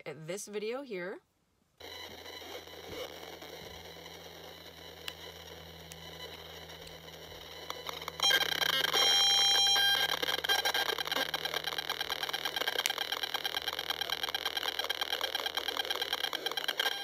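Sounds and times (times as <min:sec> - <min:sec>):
faint steady hum: 0:00.0 - 0:17.0
loud steady beeping tone: 0:01.8 - 0:17.0
rapid buzzing chatter of clicks: 0:01.8 - 0:17.0.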